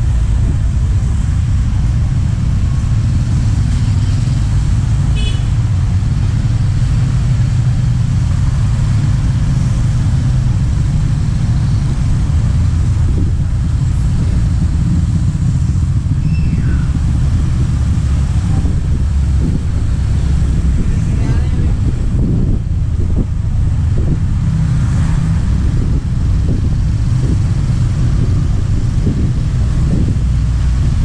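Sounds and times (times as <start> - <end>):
motorcycle engines rumbling: 0.0 - 31.0.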